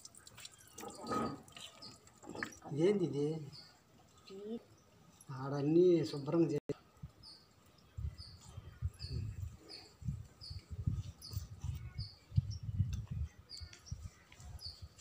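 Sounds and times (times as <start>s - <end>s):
bird chirping: 0.0s - 6.4s, 7.2s - 15.0s.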